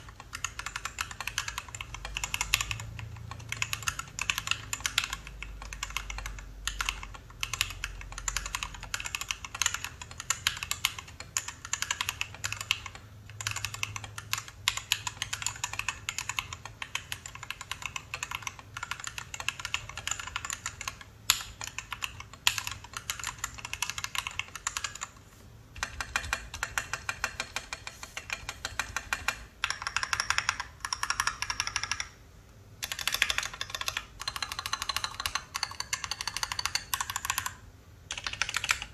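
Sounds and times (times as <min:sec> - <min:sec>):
mechanical keyboard typing: 0:00.0 - 0:32.2, 0:32.8 - 0:38.9.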